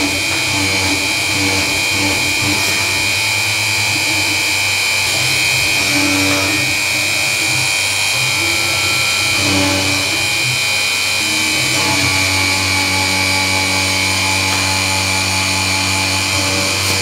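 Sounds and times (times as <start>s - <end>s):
motor low hum: 0.0s - 16.9s
milling machine cutting aluminium: 0.0s - 17.0s
spindle high-pitched whine: 0.0s - 17.0s.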